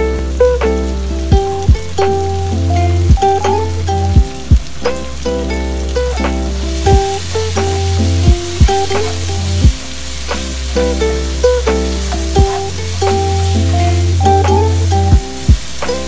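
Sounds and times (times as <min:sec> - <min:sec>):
faint sizzling in a wok: 0:00.0 - 0:16.0
plucked string music: 0:00.0 - 0:16.0.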